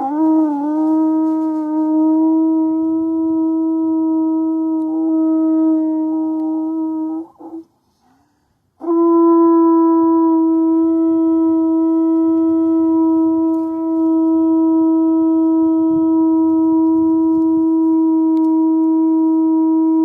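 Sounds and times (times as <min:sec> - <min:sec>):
horn blown in long notes: 0:00.0 - 0:07.7, 0:08.8 - 0:20.0.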